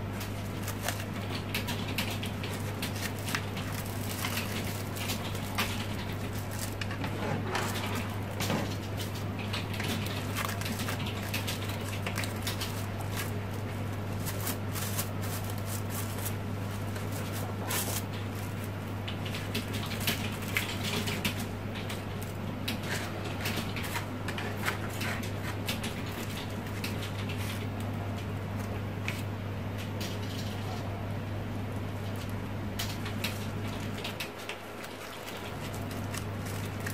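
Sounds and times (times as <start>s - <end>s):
crepe paper rustling and crinkling: 0.0s - 31.0s, 31.7s - 36.9s
steady low hum: 0.0s - 36.9s.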